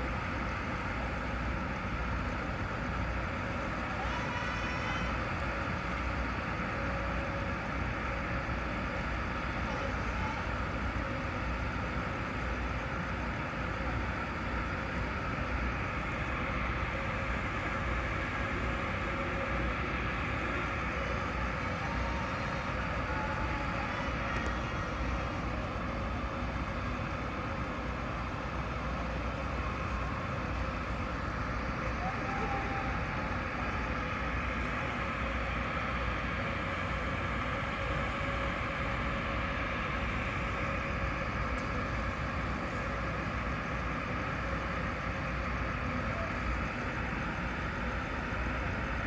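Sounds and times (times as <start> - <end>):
low engine rumble: 0.0 - 49.0
outdoor noise: 0.0 - 49.0.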